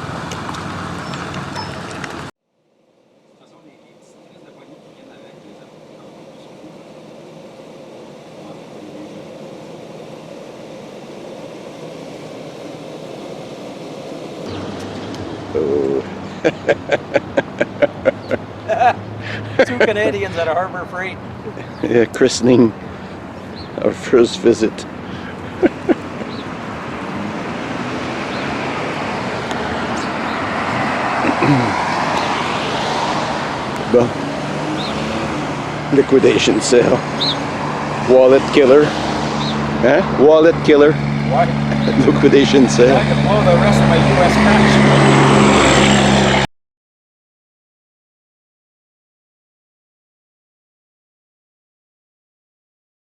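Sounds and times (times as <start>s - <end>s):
vehicle road and engine rumble: 0.0s - 2.4s, 3.0s - 46.5s
low hum: 0.0s - 19.6s, 21.2s - 46.5s.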